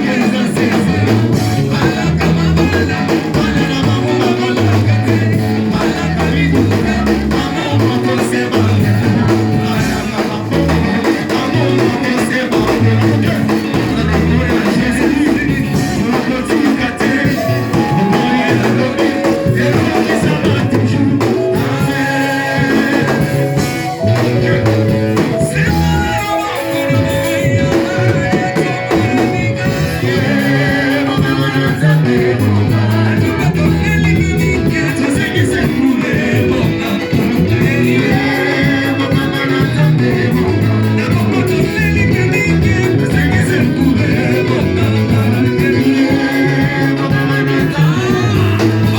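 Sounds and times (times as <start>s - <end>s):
bass guitar: 0.0s - 48.9s
drums beating: 0.0s - 48.9s
guitar: 0.0s - 48.9s
people singing: 0.0s - 48.9s.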